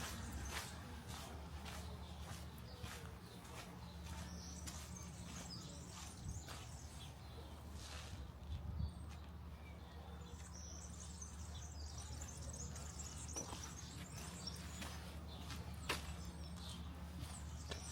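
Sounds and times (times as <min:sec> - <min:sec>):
soft footsteps: 0:00.0 - 0:09.4, 0:12.0 - 0:17.9
small birds twittering: 0:00.0 - 0:17.9.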